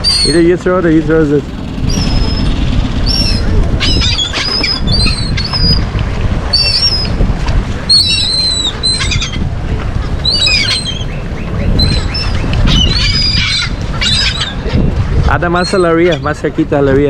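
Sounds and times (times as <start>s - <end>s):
seagulls squawking: 0.0s - 5.9s, 6.5s - 7.2s, 7.9s - 16.5s
wind on microphone: 0.0s - 17.0s.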